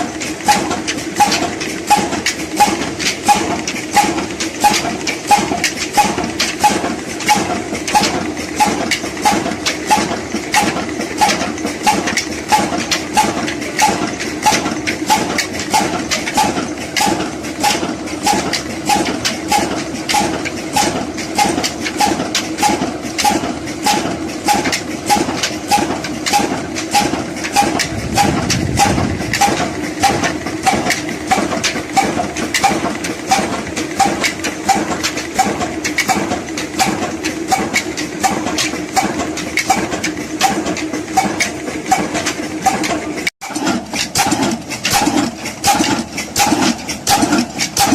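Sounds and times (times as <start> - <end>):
diesel engine knocking: 0.0 - 47.9.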